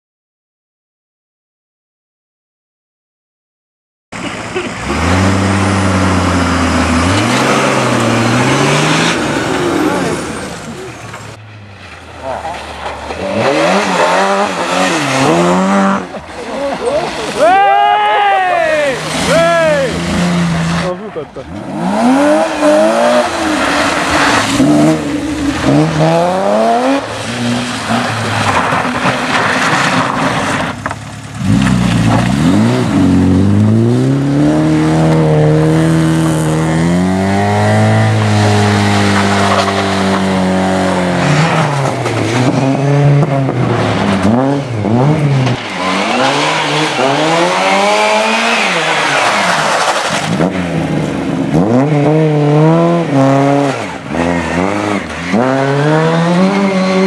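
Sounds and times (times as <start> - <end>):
car engines revving hard: 4.2 - 57.0.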